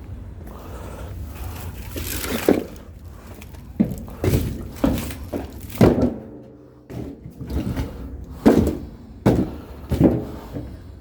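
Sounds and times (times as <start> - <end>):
logs thudding onto a pile: 1.9 - 10.8.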